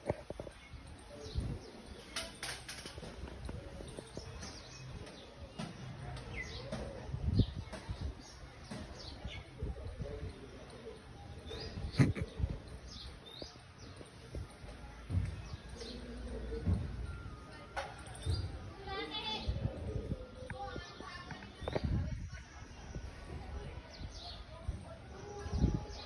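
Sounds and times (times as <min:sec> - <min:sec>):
small birds chirping: 0:00.1 - 0:17.4, 0:18.0 - 0:26.0.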